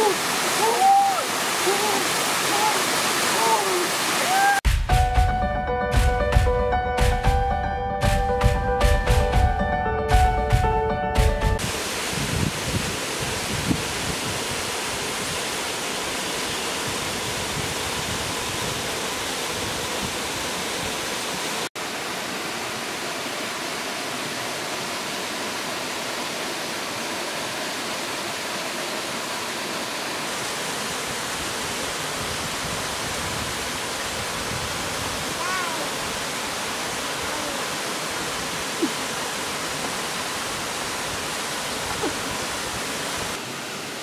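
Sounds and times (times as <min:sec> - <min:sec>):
rushing water: 0:00.0 - 0:04.9, 0:10.1 - 0:44.0.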